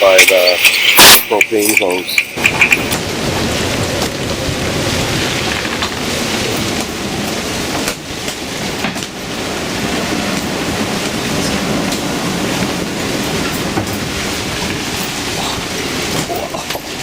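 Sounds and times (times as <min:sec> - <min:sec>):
strong wind on microphone: 0:00.5 - 0:17.0.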